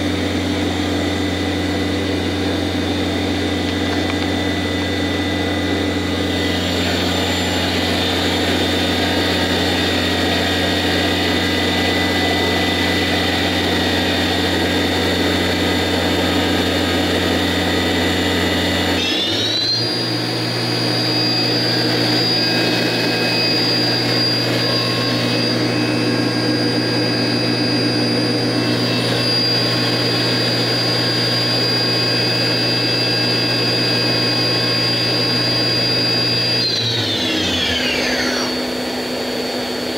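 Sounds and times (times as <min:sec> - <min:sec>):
machine spindle whine: 0:00.0 - 0:39.9.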